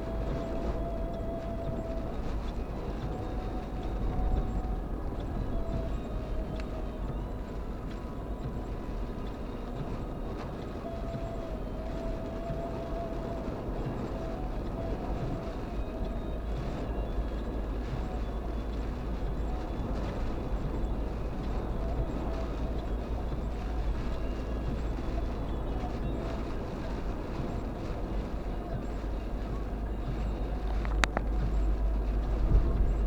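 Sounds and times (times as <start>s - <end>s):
faint wavering whine: 0.0s - 33.0s
moving vehicle rumble: 0.0s - 33.0s.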